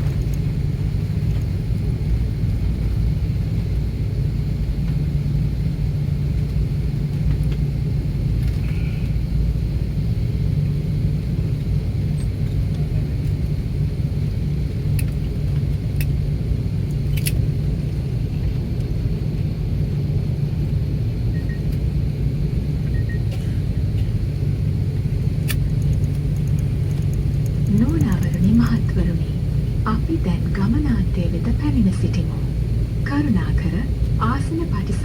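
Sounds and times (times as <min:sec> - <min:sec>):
airplane cabin low rumble: 0:00.0 - 0:35.0.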